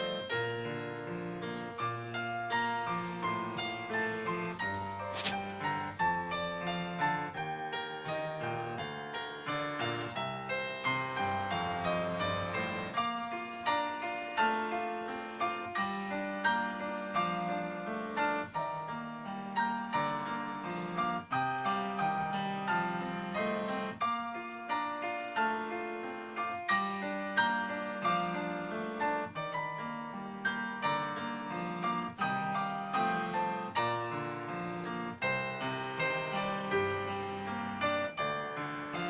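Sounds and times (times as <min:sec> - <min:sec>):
solo piano melody: 0:00.0 - 0:39.0.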